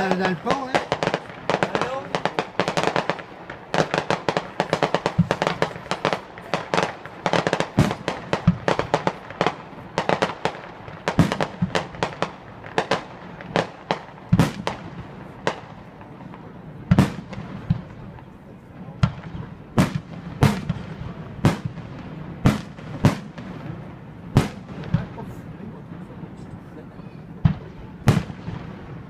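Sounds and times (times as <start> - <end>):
deep firework booms: 0.0 - 26.2, 27.4 - 29.0
fireworks crackling pops and bangs: 0.0 - 29.0.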